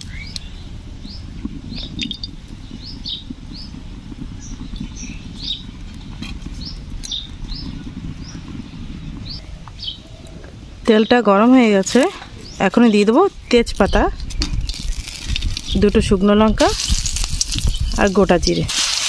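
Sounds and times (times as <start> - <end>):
low steady rumble: 0.0 - 18.7
small birds chirping: 0.0 - 18.7.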